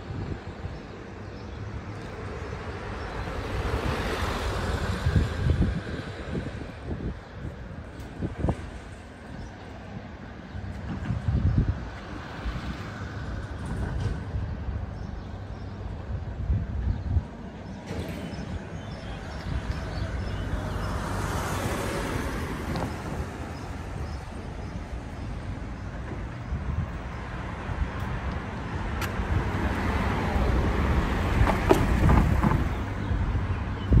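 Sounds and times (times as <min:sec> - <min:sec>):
low traffic rumble: 0:00.0 - 0:34.0.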